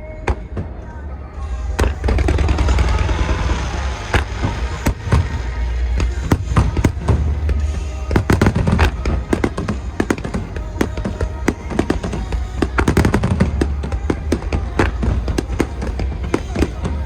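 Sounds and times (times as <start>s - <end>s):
music playing: 0.0s - 17.0s
deep rumble: 0.5s - 17.0s
fireworks cracking and crackling: 1.5s - 17.0s.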